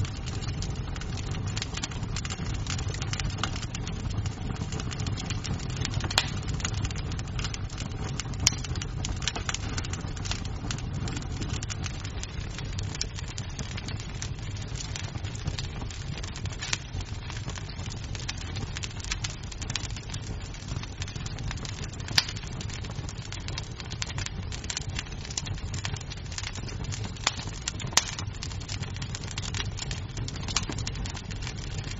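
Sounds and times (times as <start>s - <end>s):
wood fire crackling: 0.0s - 31.9s
wood snapping and popping: 0.0s - 31.9s.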